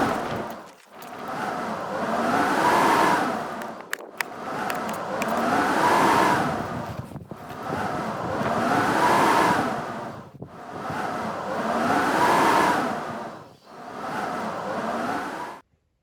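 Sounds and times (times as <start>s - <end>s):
blizzard wind gusts howling: 0.0s - 15.6s.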